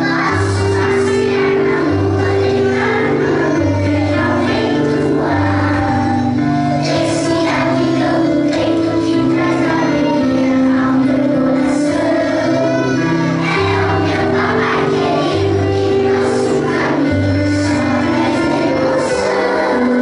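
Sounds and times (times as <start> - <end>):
children singing: 0.0 - 20.0
recorded backing music: 0.0 - 20.0.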